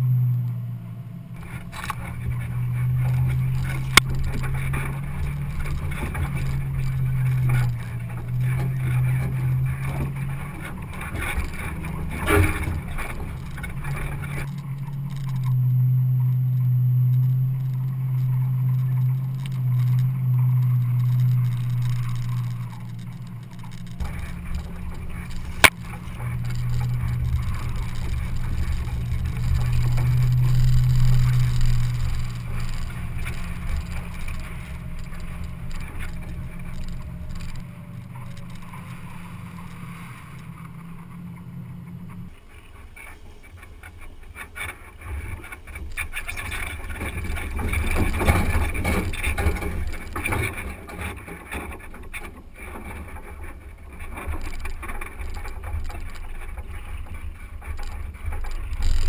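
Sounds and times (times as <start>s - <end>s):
rough road noise: 0.0s - 59.0s
vehicle engine drone: 0.0s - 59.0s.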